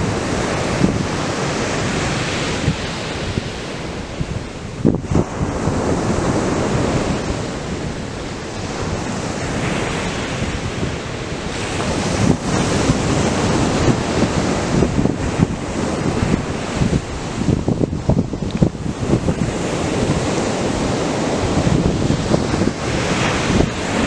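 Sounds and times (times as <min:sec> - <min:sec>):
surf breaking on beach: 0:00.0 - 0:24.0
wind buffeting microphone: 0:00.0 - 0:24.0.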